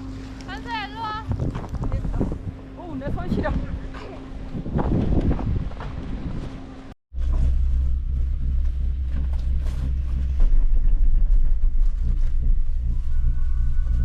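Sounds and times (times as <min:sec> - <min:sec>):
cable car cabin rumble: 0:00.0 - 0:14.0.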